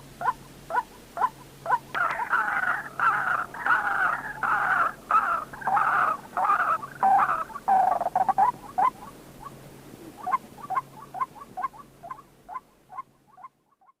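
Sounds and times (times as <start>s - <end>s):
faint steady hum: 0.0s - 14.0s
waterhen calling: 0.2s - 14.0s.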